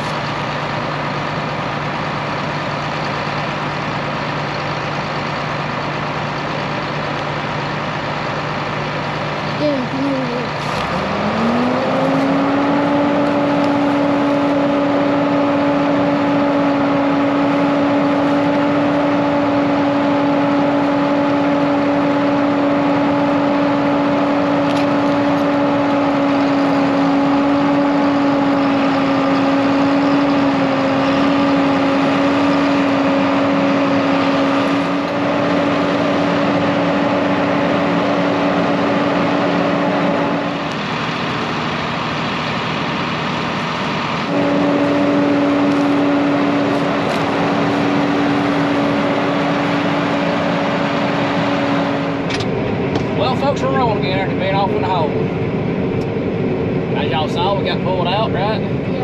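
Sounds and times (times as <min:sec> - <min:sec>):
heavy diesel engine revving: 0:00.0 - 0:59.0.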